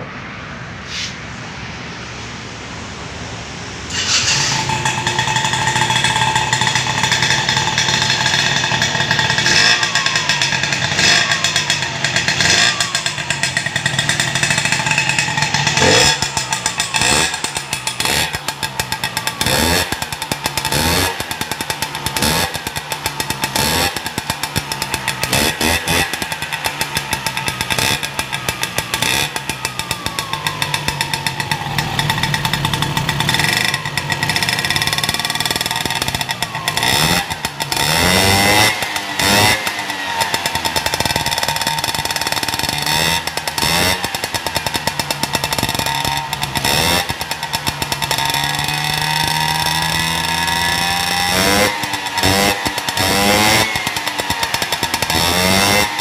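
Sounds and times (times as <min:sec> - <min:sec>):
scooter engine revving: 0:02.7 - 0:56.0.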